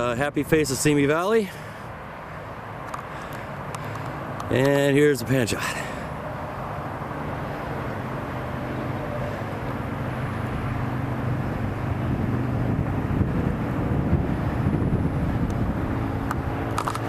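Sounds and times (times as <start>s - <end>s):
distant engine drone: 0.0s - 17.0s
outdoor rushing noise: 0.0s - 17.0s.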